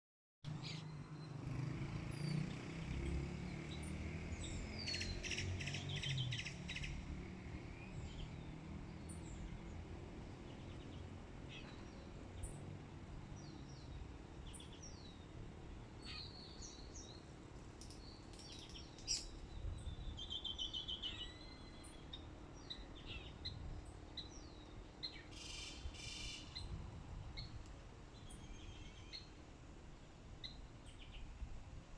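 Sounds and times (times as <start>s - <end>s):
wild birds chirping: 0.5s - 31.4s.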